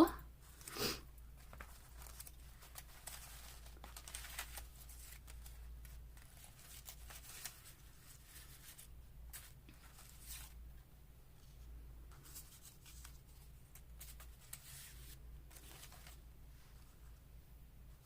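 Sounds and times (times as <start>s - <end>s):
low steady hum: 0.0s - 18.0s
paper rustling: 0.4s - 10.6s, 11.4s - 17.0s.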